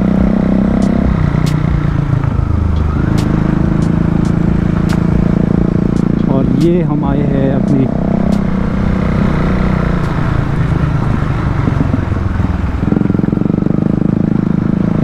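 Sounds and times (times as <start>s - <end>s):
motorcycle exhaust note: 0.0s - 15.0s.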